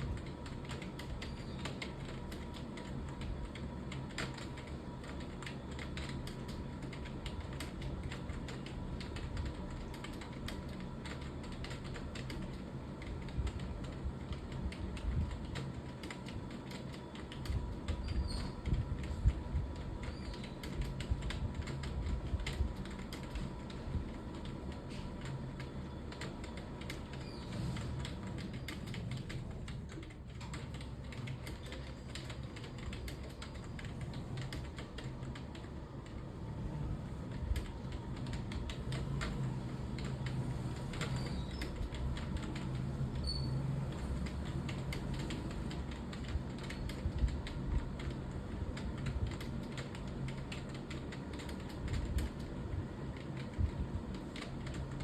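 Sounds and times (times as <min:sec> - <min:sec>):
typing on computer keyboard: 0:00.0 - 0:55.0.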